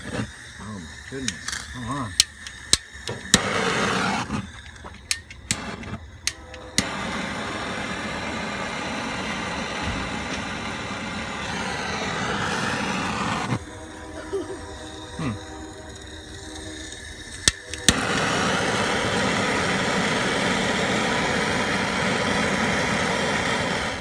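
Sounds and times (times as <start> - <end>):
torch igniter clicks: 0.0 - 13.6, 17.2 - 24.0
gas hissing: 0.0 - 24.0
torch flame rushing: 0.0 - 24.0.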